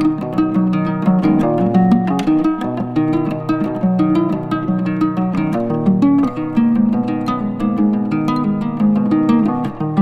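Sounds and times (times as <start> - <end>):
plucked string instrument music: 0.0 - 10.0.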